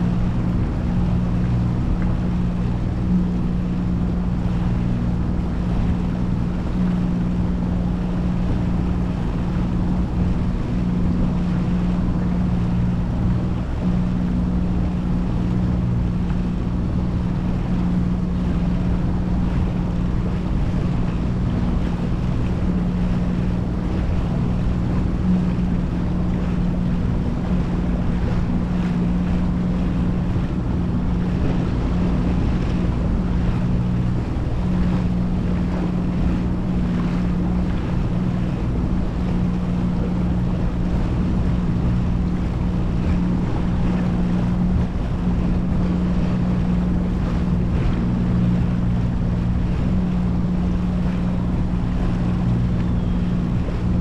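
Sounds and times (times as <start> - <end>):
outboard motor droning: 0.0 - 54.0
wind noise on microphone: 0.0 - 54.0.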